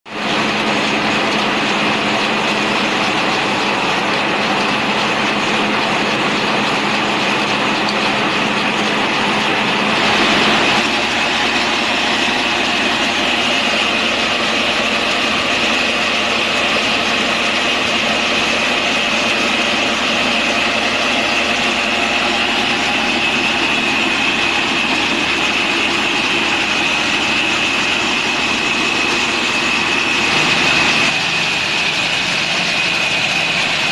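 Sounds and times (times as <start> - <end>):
sawmill machinery din: 0.1 - 33.9
steady high whine: 0.2 - 33.9.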